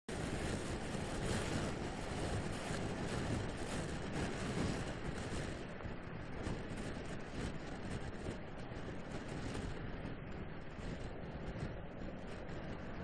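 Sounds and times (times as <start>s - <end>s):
scooter road noise: 0.1s - 13.0s
wind rush on microphone: 0.1s - 13.0s.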